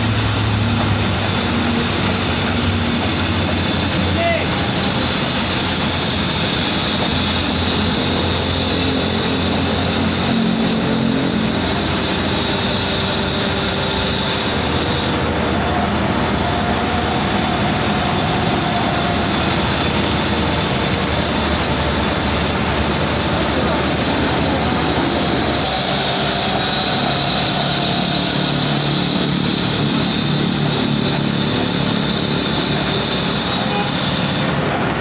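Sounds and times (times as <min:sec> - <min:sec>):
excavator diesel engine running: 0:00.0 - 0:35.0
high steady whine: 0:00.0 - 0:35.0.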